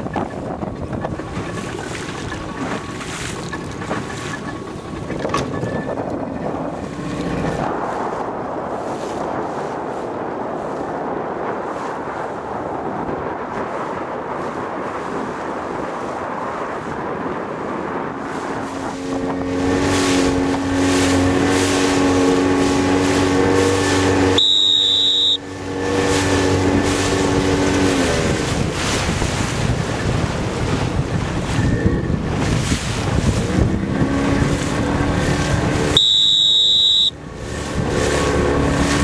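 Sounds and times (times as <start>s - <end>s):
wind buffeting microphone: 0.0s - 24.4s, 25.4s - 36.0s, 37.1s - 39.0s
choppy sea water: 0.0s - 39.0s
motorboat engine: 0.0s - 39.0s.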